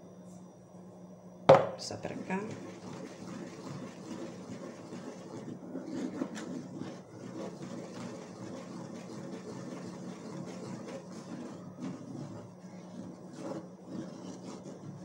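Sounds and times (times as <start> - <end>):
steady low hum: 0.0 - 15.0
wooden spoon scraping a pot: 2.0 - 15.0.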